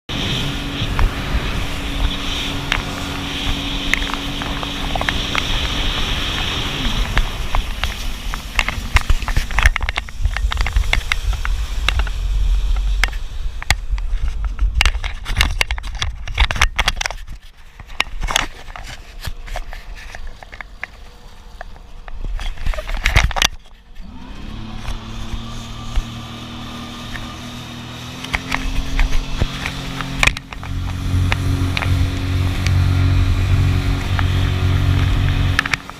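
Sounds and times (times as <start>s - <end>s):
jet ski engine running: 0.1s - 17.0s, 17.6s - 35.9s
low rumbling with crackles and pops: 0.1s - 35.9s.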